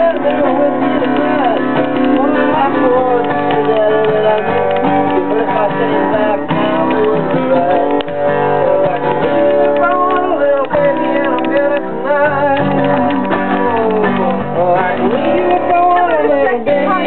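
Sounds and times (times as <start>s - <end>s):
acoustic guitar strumming: 0.0s - 17.0s
person singing: 0.0s - 17.0s.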